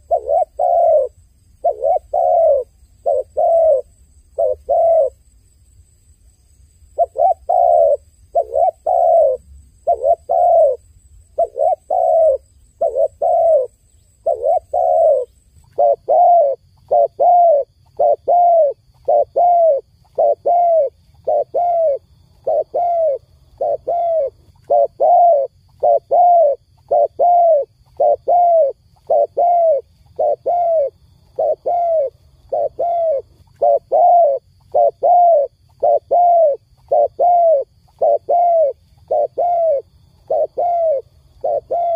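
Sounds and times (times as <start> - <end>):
dove cooing: 0.0 - 5.2, 7.0 - 41.9.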